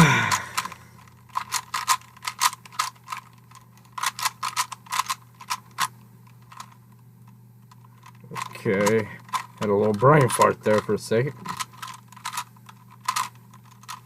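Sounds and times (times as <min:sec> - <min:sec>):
puzzle cube layers clicking: 0:00.0 - 0:06.8, 0:08.0 - 0:14.0.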